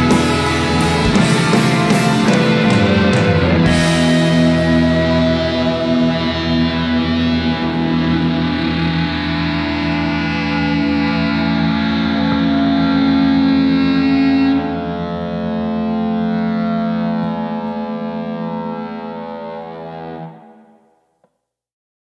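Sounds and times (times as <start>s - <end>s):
rock band guitar chords: 0.0s - 20.8s.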